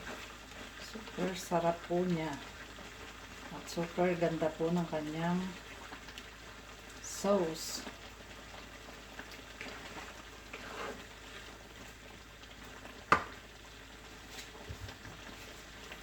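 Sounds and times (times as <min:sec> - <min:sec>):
sauce bubbling in a pot: 0:00.0 - 0:16.0.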